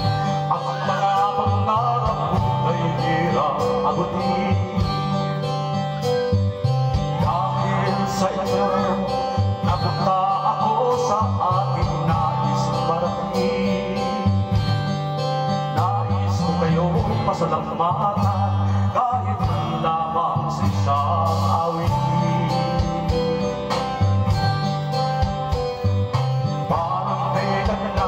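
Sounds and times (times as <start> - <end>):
man singing into microphone: 0.0 - 6.1, 6.9 - 28.0
guitar-led backing track: 0.0 - 28.0.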